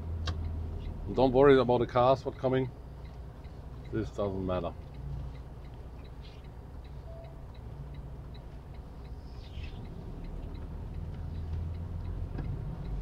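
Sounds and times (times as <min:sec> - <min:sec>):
diesel truck engine running: 0:00.0 - 0:13.0
turn signal ticking: 0:00.0 - 0:13.0.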